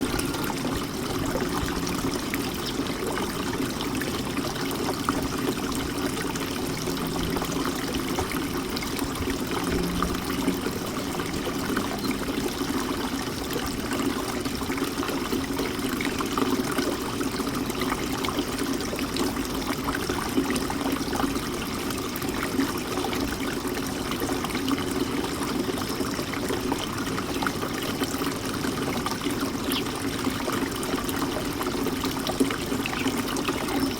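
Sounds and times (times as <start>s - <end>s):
fountain water trickling and splashing: 0.0s - 33.9s.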